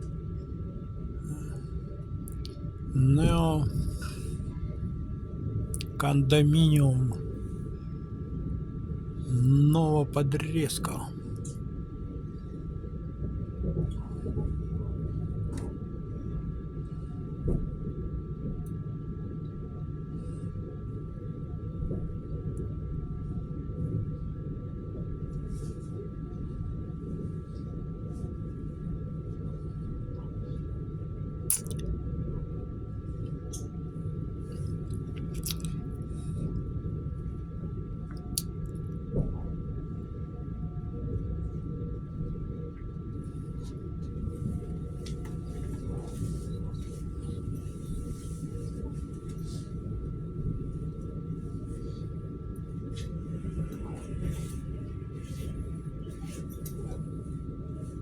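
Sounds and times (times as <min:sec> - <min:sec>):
train rumble: 0:00.0 - 0:31.4, 0:39.1 - 0:58.0
faint high hum: 0:00.0 - 0:58.0.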